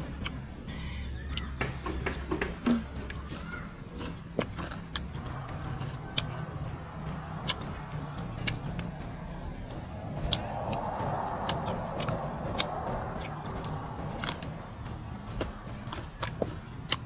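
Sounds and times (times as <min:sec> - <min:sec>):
steady low hum: 0:00.0 - 0:17.0
crunching while chewing: 0:02.6 - 0:17.0.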